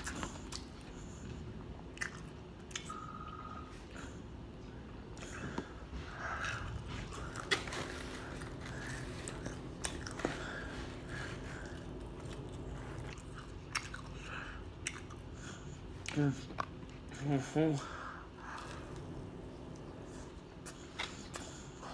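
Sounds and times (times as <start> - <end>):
person chewing food: 0.0 - 17.2, 18.2 - 21.9.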